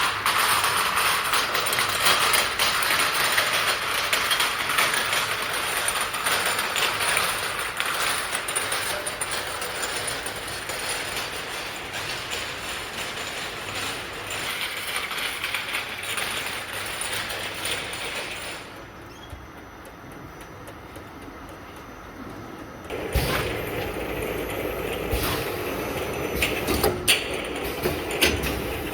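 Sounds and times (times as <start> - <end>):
packing machine clattering: 0.0 - 18.9, 22.9 - 28.9.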